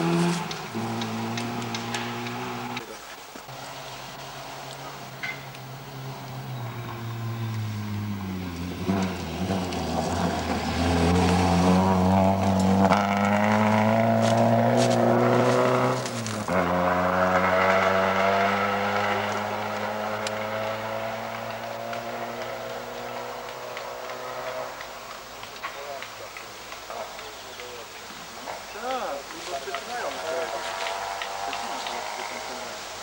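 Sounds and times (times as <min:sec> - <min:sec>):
rally car engine passing by: 0:00.0 - 0:02.9, 0:03.5 - 0:25.2, 0:29.9 - 0:33.0.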